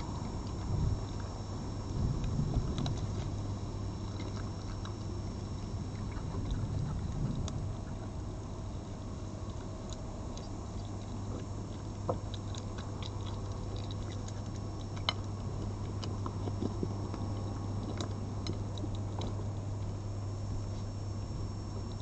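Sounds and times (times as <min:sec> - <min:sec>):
fox eating with small clicks: 0:00.0 - 0:22.0
steady low hum: 0:00.0 - 0:22.0.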